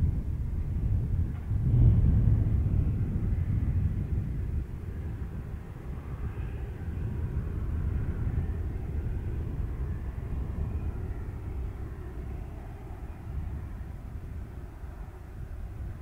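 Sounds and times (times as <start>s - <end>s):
distant jet engines running: 0.0s - 16.0s.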